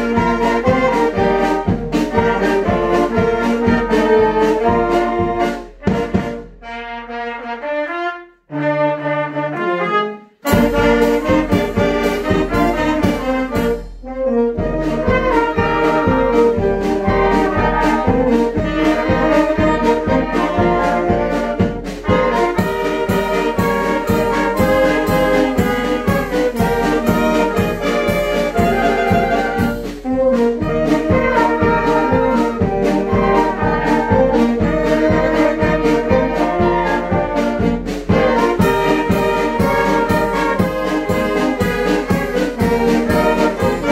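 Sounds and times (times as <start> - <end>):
steady drum beat: 0.0 - 6.6, 10.4 - 43.9
brass band playing: 0.0 - 43.9.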